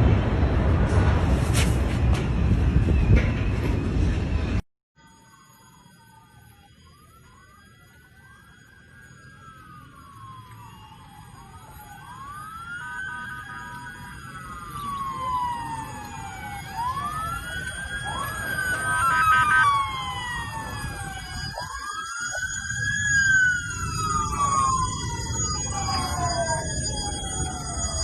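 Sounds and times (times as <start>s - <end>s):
emergency sirens wailing: 2.0s - 28.0s.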